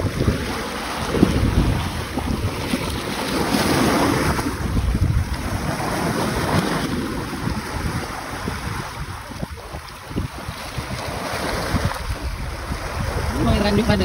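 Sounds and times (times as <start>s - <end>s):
sea waves washing on shore: 0.0s - 14.0s
wind buffeting microphone: 0.0s - 14.0s.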